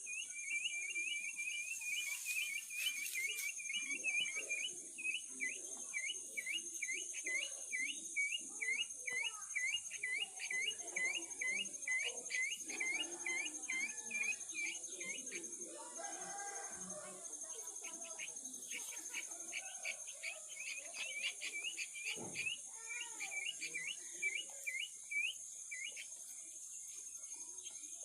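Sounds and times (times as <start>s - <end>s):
chick peeping: 0.0s - 9.0s, 9.6s - 15.8s, 17.6s - 26.2s.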